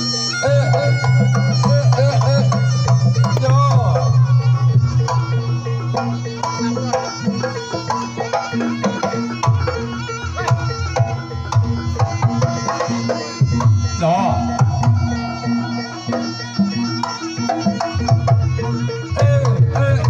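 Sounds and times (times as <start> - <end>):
sliding melodic notes: 0.0 - 18.0
hand drums beating quick strokes: 0.0 - 20.0
pitched instrument tones: 0.0 - 20.0.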